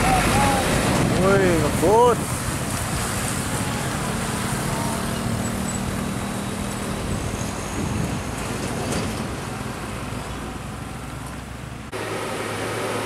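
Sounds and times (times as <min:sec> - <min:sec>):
motorcycles passing: 0:00.0 - 0:13.0
road noise: 0:00.0 - 0:13.0.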